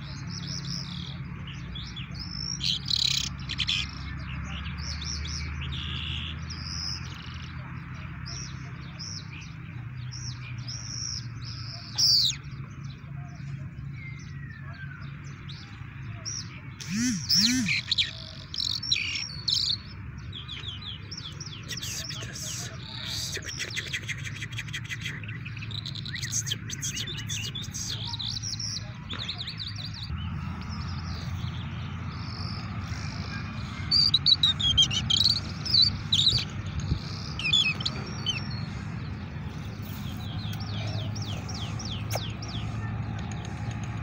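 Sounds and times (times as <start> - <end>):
songbird chirping and trilling: 0.0 - 44.0.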